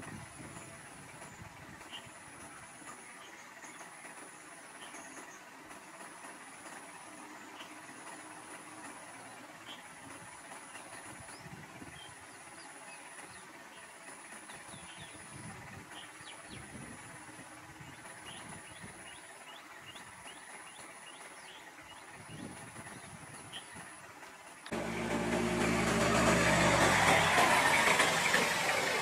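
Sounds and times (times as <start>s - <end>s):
birds chirping: 0.1s - 29.0s.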